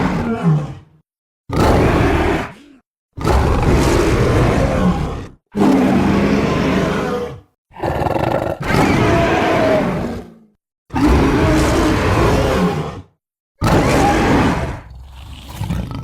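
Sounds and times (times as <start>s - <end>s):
dragon roar: 0.0s - 0.9s, 1.5s - 16.0s.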